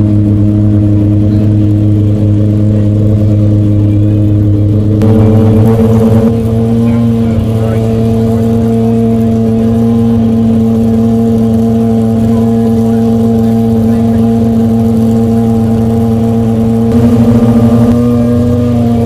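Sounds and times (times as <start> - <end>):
loud car engine running: 0.0 - 19.0.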